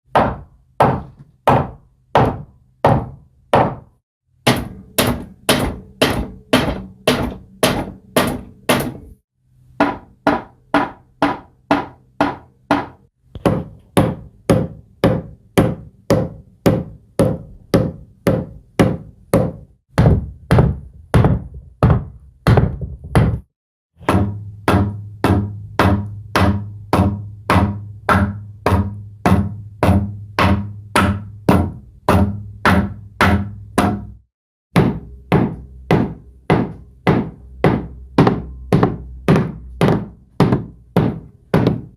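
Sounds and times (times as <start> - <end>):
hammer striking wood: 0.1 - 9.2, 9.8 - 41.9.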